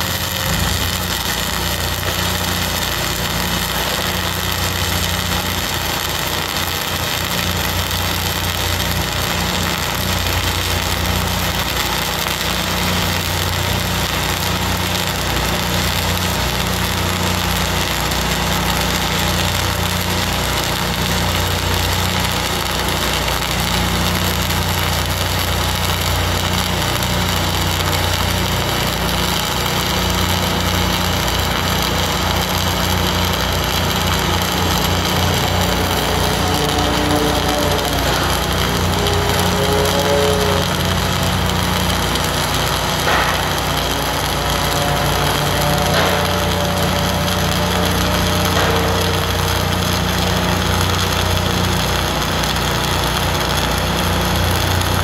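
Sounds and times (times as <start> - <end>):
arc welding crackle and hiss: 0.0 - 55.0.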